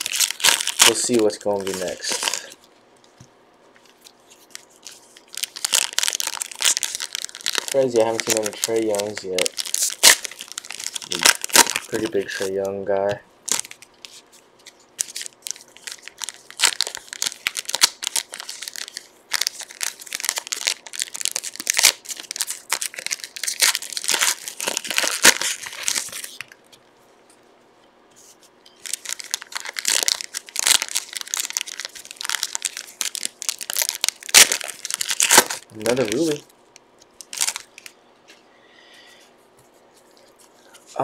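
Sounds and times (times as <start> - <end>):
card pack wrappers crinkling: 0.0 - 2.7, 3.8 - 26.8, 28.2 - 38.0.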